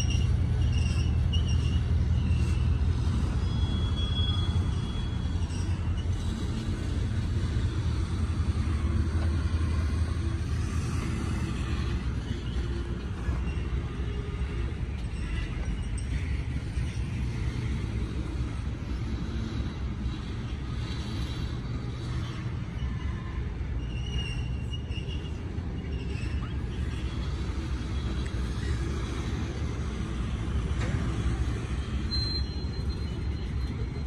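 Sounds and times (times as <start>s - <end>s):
freight train cars rumbling past: 0.0s - 34.0s.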